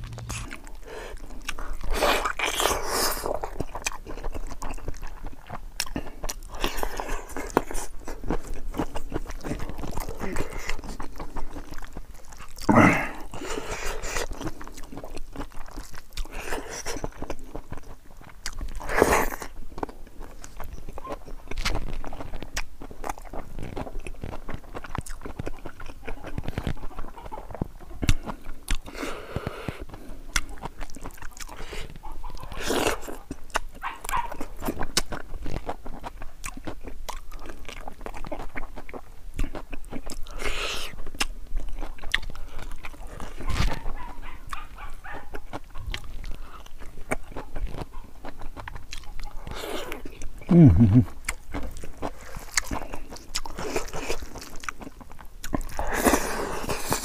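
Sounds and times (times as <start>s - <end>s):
chewing with wet mouth clicks: 0.0s - 57.0s.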